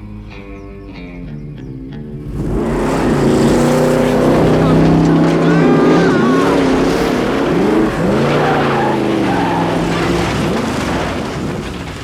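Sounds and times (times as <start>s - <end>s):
car engine revving: 2.0s - 12.0s
tyres skidding: 2.1s - 12.0s.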